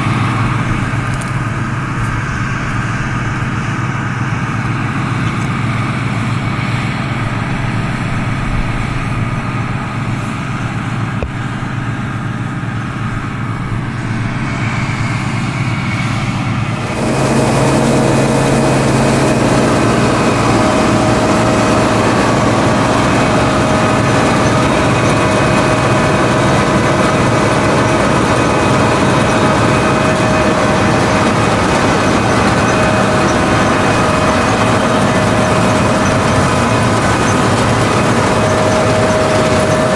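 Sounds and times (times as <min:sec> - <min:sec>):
combine harvester engine drone: 0:00.0 - 0:39.9
steady mechanical whine: 0:00.0 - 0:39.9.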